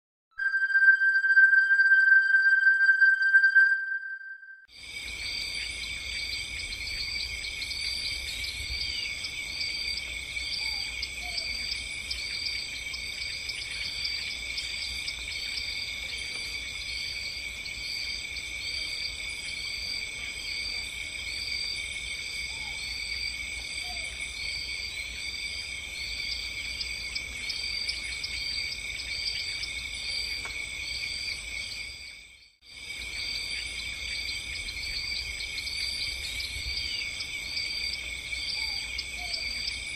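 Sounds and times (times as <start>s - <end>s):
crickets chirping: 0.4s - 39.9s.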